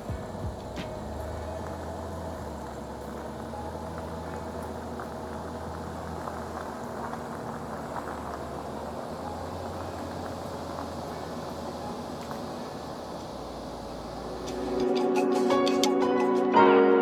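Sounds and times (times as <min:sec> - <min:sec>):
car engine running steadily: 0:00.0 - 0:14.9.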